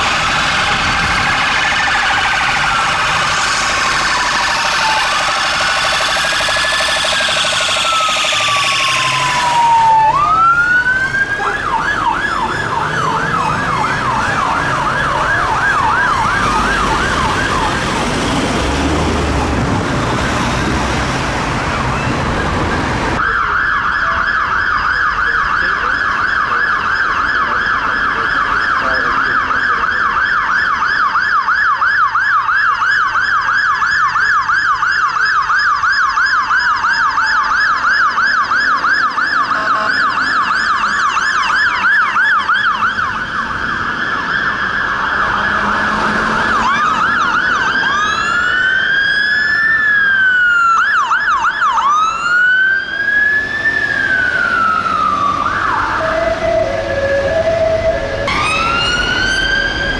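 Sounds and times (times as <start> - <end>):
fire engine siren yelping: 0.0 - 59.9
police sirens wailing and yelping: 0.0 - 59.9
road noise of passing vehicles: 0.0 - 59.9
siren wailing: 0.0 - 59.9.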